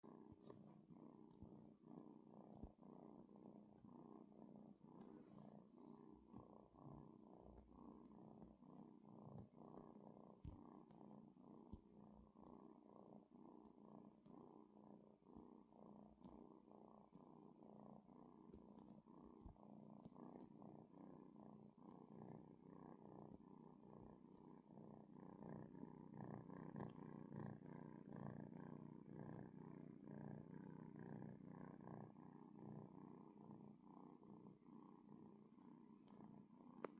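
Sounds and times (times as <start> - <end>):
kitten purring: 0.0 - 36.9.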